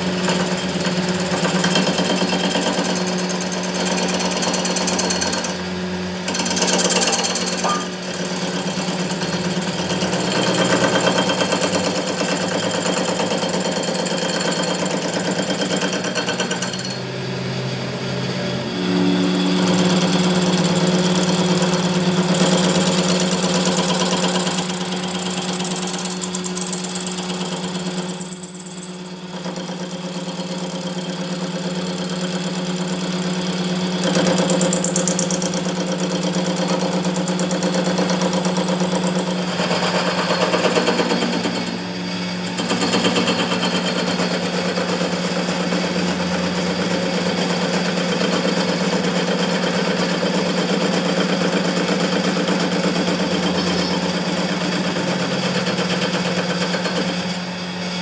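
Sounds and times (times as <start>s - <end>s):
workshop machinery running: 0.0s - 58.0s.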